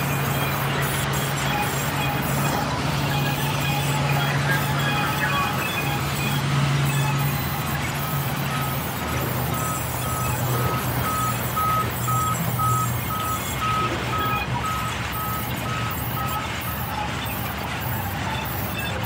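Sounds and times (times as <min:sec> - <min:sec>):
band saw cutting planks: 0:00.0 - 0:19.0
short beeps: 0:00.0 - 0:19.0.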